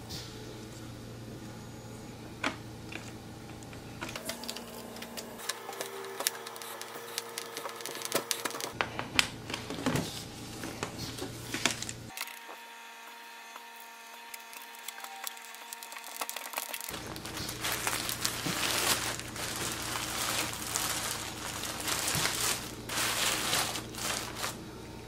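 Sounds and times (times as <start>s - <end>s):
steady low hum: 0.0s - 12.1s, 16.9s - 25.0s.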